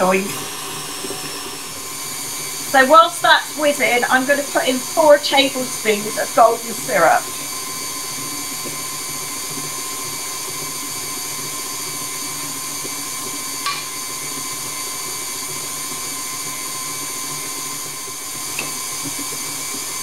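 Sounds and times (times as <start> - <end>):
electric mixer whining: 0.0 - 20.0.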